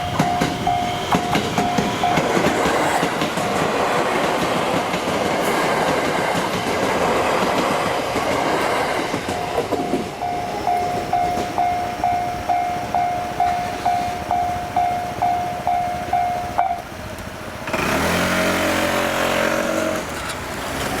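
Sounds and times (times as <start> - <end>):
level crossing warning bell: 0.0 - 17.7.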